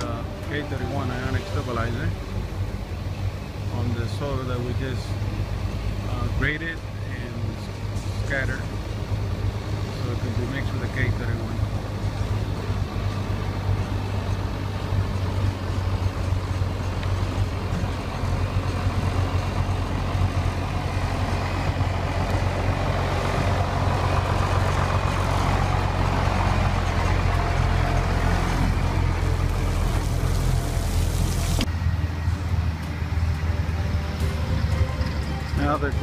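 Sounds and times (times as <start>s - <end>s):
truck diesel engine driving past: 0.0s - 36.0s.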